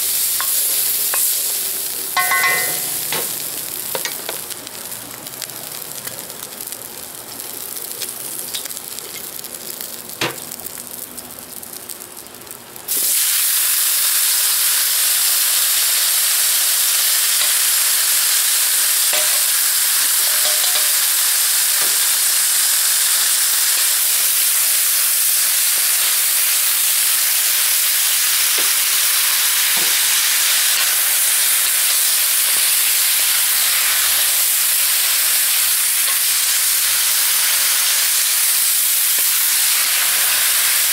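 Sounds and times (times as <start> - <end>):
hot wok hissing: 0.0 - 6.7, 12.8 - 40.9
vegetables sizzling in wok: 0.0 - 40.9.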